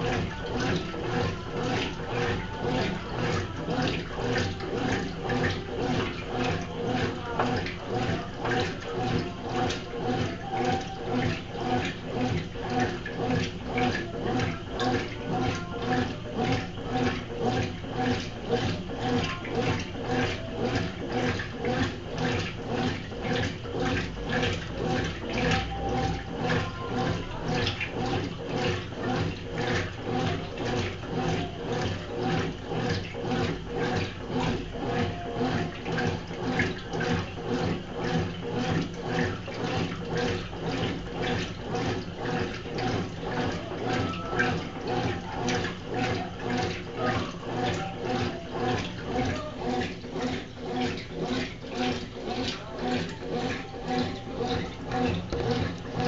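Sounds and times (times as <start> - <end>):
washing machine motor hum: 0.0 - 56.0
water sloshing in washing machine: 0.0 - 56.0.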